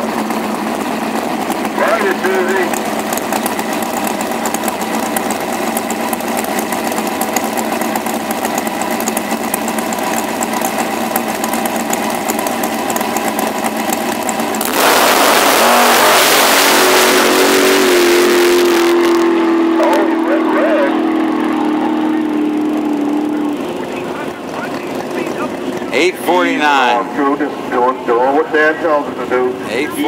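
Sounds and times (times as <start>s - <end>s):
dragster engine: 0.0s - 30.0s.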